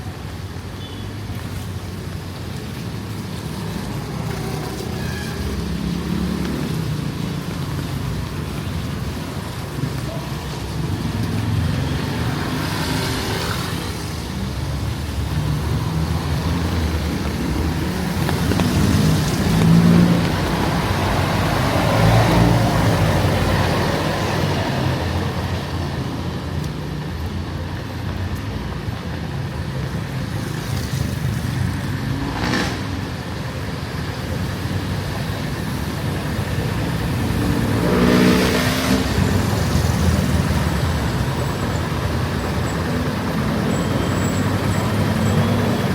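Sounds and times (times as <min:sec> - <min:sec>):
low traffic rumble: 0:00.0 - 0:45.9
vehicles passing: 0:00.0 - 0:45.9.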